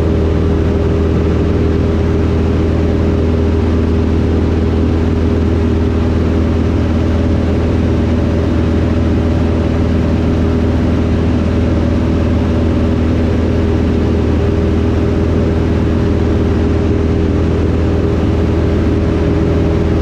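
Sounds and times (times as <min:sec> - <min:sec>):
aircraft engine and propeller droning: 0:00.0 - 0:20.0.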